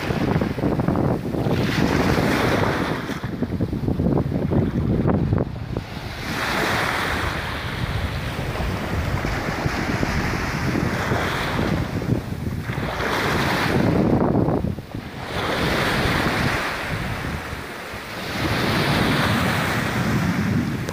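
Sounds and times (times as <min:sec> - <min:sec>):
surf washing onto beach: 0:00.0 - 0:20.9
wind rumbling on microphone: 0:00.0 - 0:20.9.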